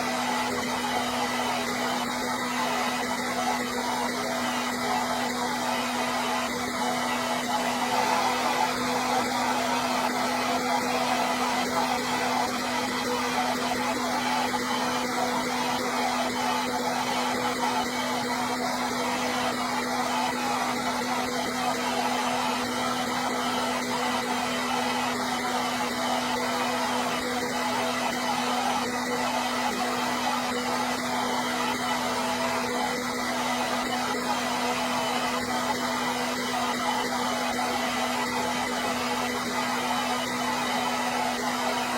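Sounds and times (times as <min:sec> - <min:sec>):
hair dryer running: 0:00.0 - 0:41.9.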